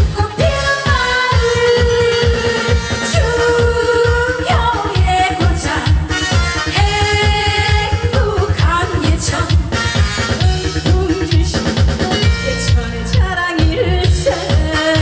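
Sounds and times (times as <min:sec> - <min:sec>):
woman singing into microphone: 0:00.0 - 0:09.8, 0:10.4 - 0:15.0
amplified pop music with fast beat: 0:00.0 - 0:15.0.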